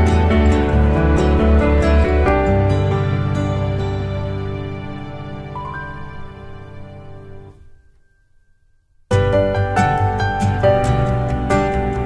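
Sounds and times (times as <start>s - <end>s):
soft music with held tones: 0.0s - 12.0s.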